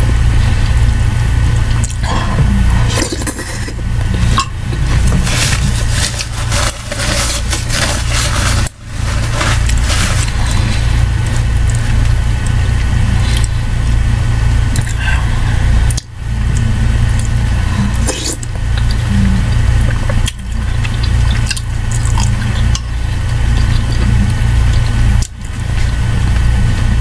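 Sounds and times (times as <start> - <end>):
steady low hum: 0.0 - 27.0
chewing: 1.7 - 13.6, 14.7 - 27.0
slurping: 1.7 - 13.8, 14.7 - 27.0.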